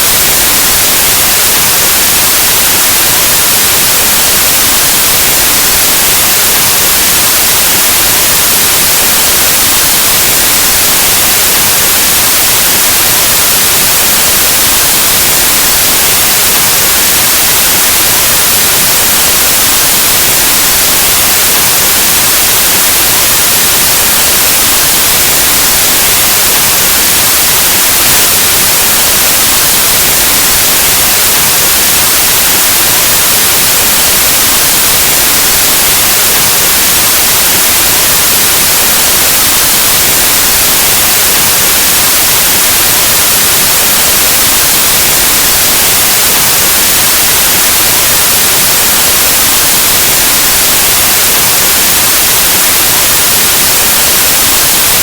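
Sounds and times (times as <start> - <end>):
white noise static hiss: 0.0 - 55.0.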